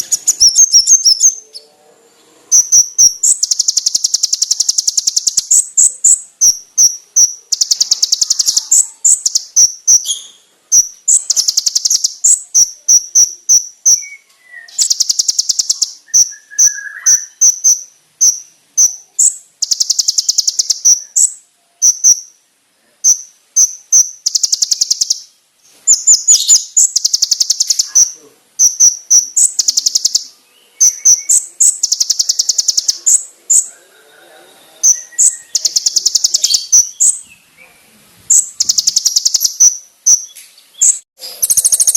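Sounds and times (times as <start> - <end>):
sunbird singing trills and chirps: 0.0 - 41.9.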